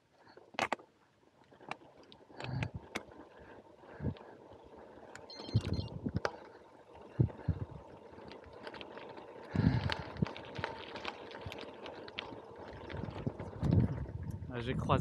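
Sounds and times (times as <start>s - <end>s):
bicycle tyre noise: 0.1s - 15.0s
bike and bags rattling: 1.4s - 15.0s.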